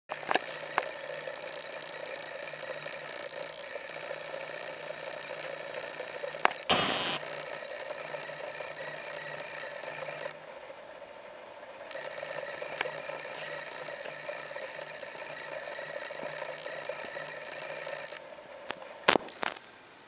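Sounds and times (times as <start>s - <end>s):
sharp clicks: 0.1s - 10.4s, 11.9s - 19.7s.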